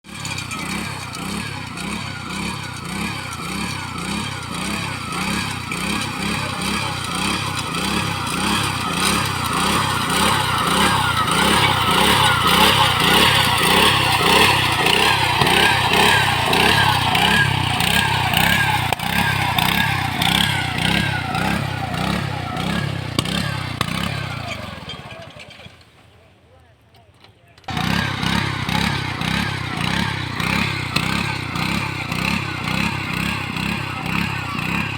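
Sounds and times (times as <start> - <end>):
combine harvester running: 0.1 - 25.8, 27.7 - 34.9.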